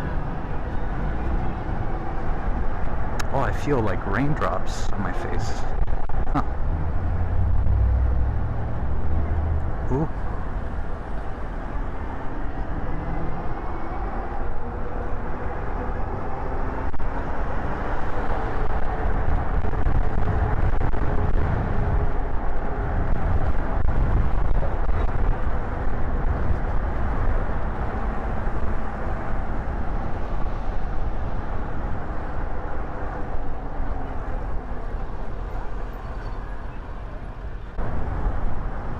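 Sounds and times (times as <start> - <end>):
road and tyre noise: 0.0 - 38.9.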